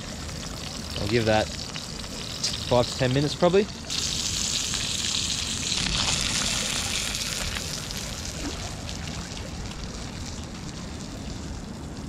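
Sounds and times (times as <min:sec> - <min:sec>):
fish sizzling in oil: 0:00.0 - 0:11.9.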